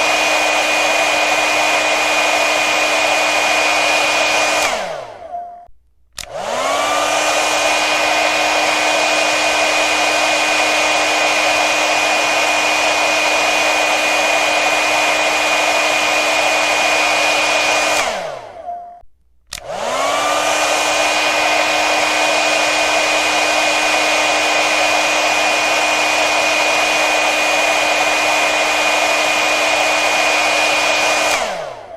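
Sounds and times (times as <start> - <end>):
hair dryer blowing: 0.0 - 5.3, 6.2 - 18.7, 19.5 - 31.9.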